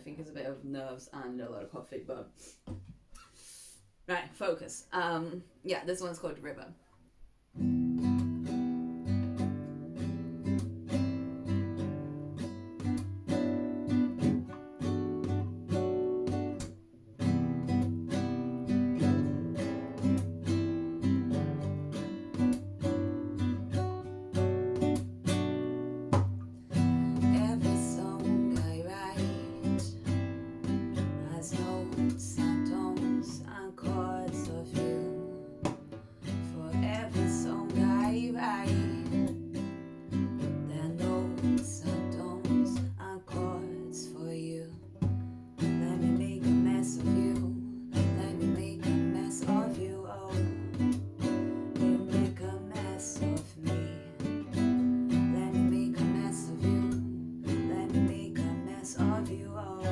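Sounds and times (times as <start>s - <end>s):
acoustic guitar strumming: 7.6s - 59.9s.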